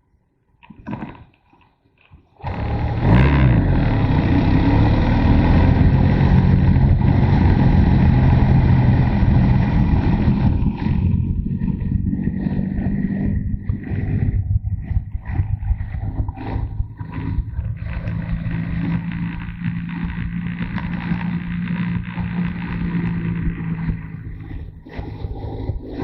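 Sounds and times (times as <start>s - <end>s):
motorcycle engine accelerating: 2.4s - 26.0s
wind noise: 4.2s - 26.0s.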